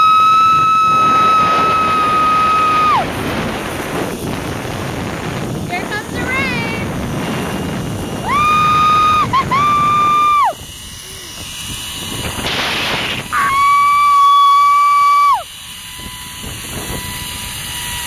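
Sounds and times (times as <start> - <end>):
zip line pulleys whining: 0.0 - 18.0.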